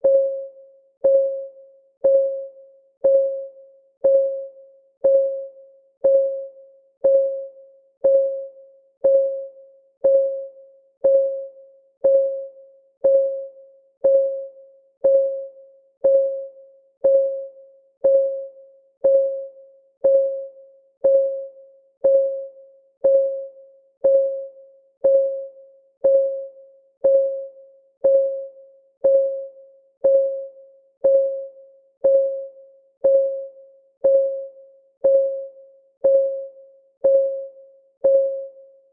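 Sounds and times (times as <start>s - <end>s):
countdown timer ticking: 3.0s - 4.4s, 5.0s - 38.6s.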